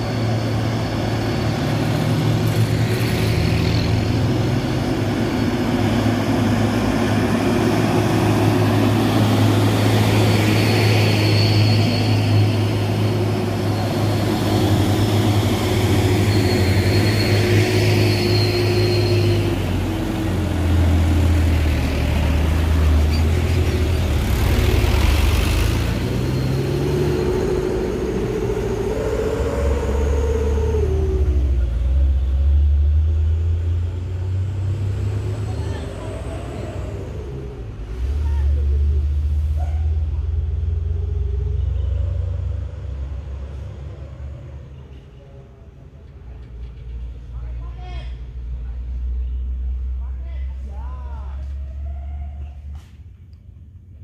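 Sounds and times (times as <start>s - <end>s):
diesel truck engine droning: 0.0s - 47.6s.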